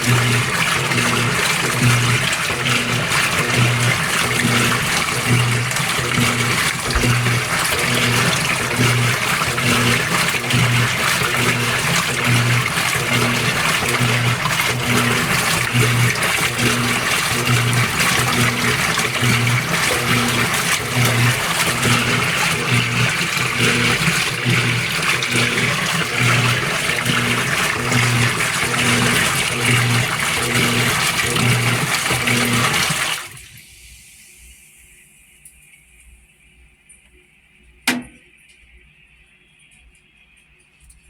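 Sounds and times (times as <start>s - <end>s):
washer water sloshing: 0.0s - 34.1s
washer motor pulsing hum: 0.0s - 41.0s.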